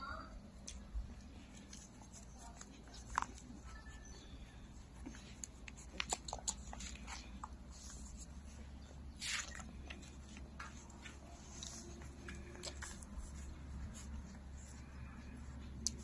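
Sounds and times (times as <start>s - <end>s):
puppies suckling: 1.2s - 16.0s.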